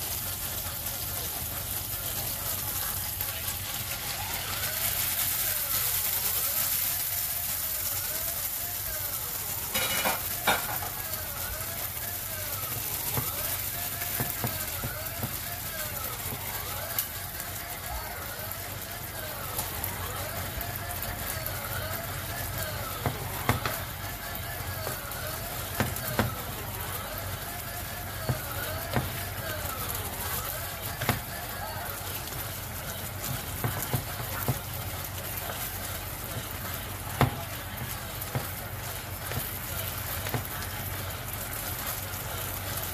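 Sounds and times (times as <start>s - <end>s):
meat sizzling in a frying pan: 0.0s - 42.9s.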